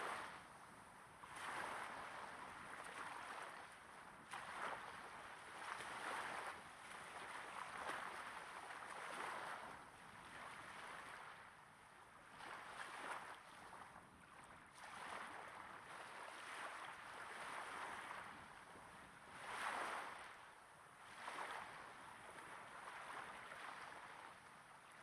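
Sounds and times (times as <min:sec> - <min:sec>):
small waves washing onto sand: 0:00.0 - 0:25.0.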